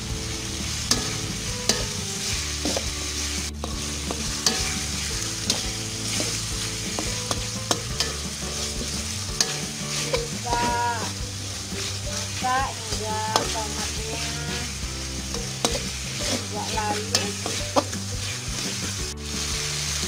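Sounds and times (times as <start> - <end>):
food sizzling in hot oil: 0.0 - 20.0
metal spatula scraping a wok: 0.0 - 20.0.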